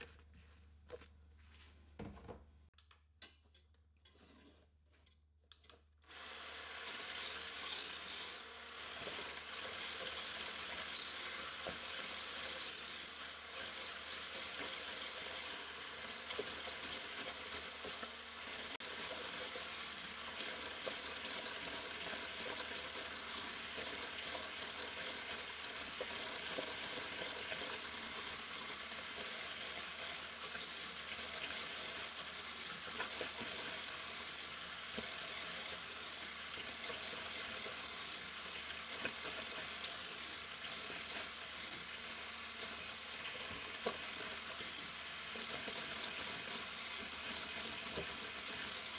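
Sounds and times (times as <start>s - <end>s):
electric immersion blender running: 6.1s - 48.9s.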